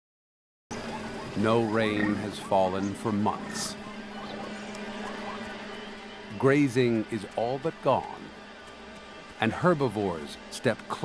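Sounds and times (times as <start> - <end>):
sustained background music tones: 0.7 - 11.0.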